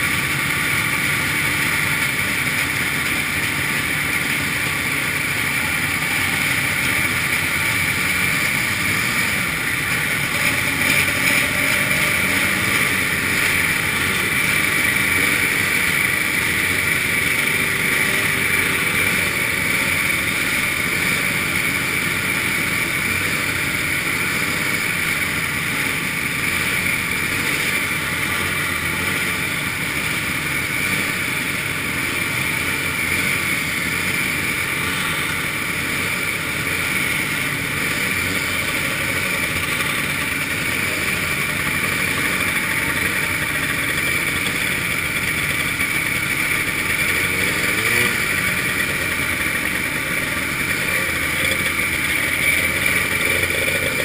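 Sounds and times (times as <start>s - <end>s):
snowmobile engines idling: 0.0s - 54.0s.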